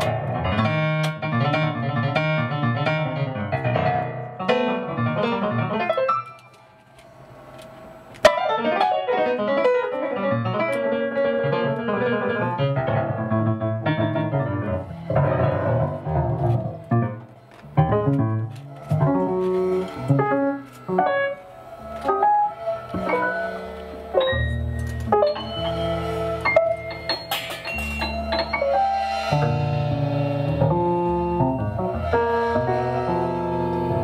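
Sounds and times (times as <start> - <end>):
piano chords and runs: 0.0 - 34.0.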